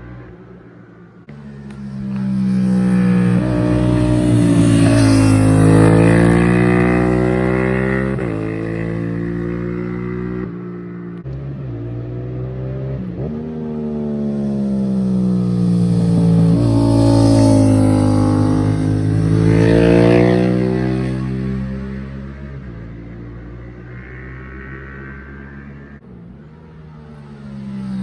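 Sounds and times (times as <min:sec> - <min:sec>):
motorcycle engine revving: 0:01.2 - 0:28.0.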